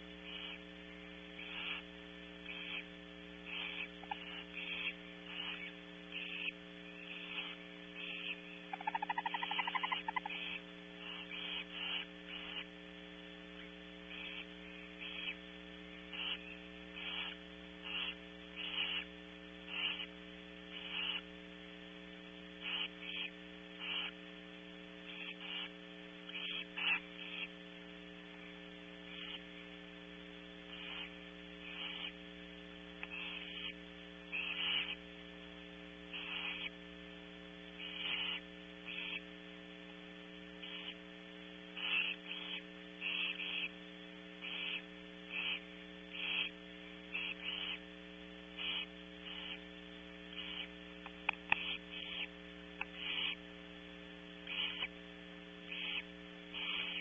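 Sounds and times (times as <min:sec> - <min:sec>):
owl nestlings hissing calls: 0:00.0 - 0:21.5, 0:22.5 - 0:24.3, 0:24.9 - 0:29.7, 0:30.6 - 0:35.3, 0:35.9 - 0:37.0, 0:37.6 - 0:39.4, 0:40.4 - 0:53.5, 0:54.4 - 0:57.0
electrical hum: 0:00.0 - 0:57.0.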